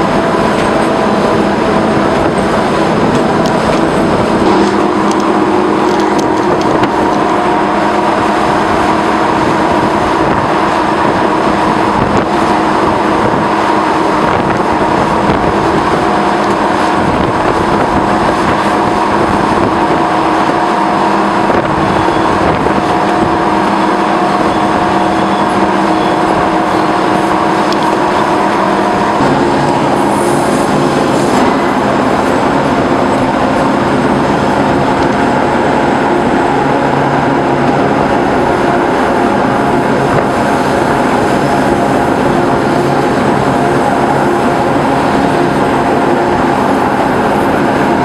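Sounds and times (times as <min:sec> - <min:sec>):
diesel locomotive engine drone: 0:00.0 - 0:48.0
locomotive horn tones: 0:00.0 - 0:48.0
train rolling on rails: 0:00.0 - 0:48.0.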